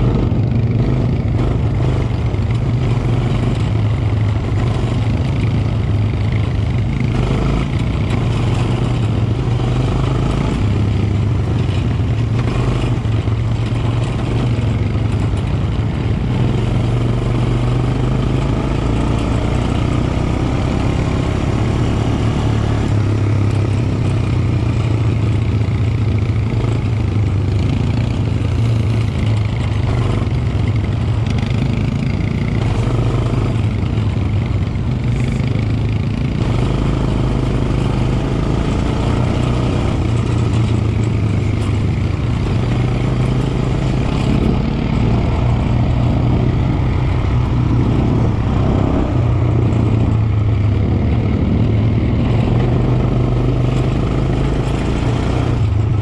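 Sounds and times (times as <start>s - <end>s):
quad bike engine droning: 0.0s - 56.0s.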